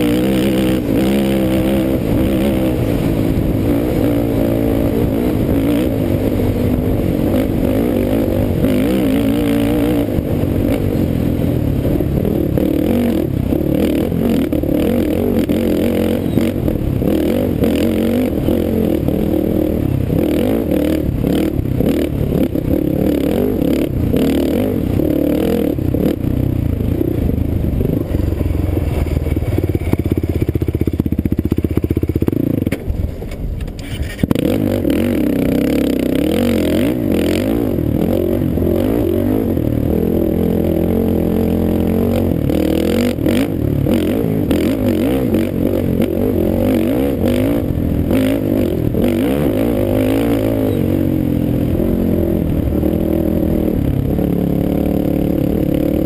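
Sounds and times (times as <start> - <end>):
quad engine running hard: 0.0 - 56.0.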